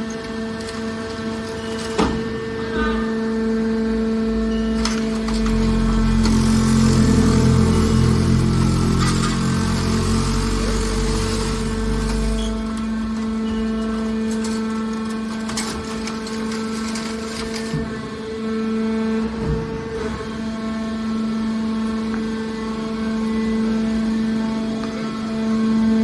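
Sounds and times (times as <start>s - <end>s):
hydraulic power unit hum: 0.0s - 26.0s.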